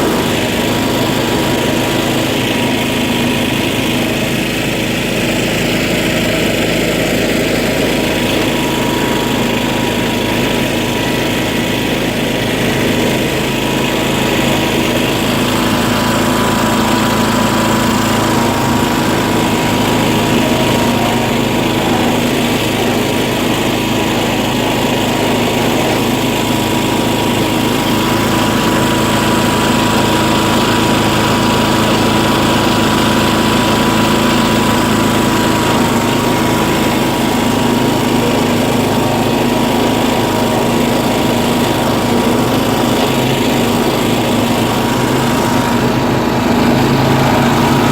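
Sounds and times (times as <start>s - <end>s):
off-road vehicle engine whining: 0.0s - 47.9s.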